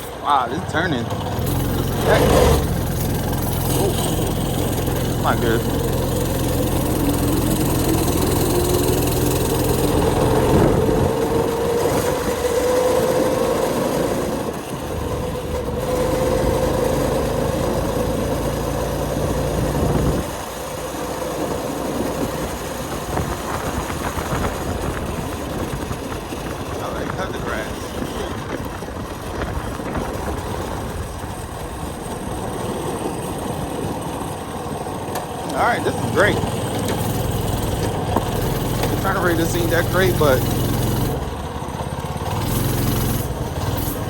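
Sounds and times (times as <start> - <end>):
go-kart engine revving: 0.0 - 44.0.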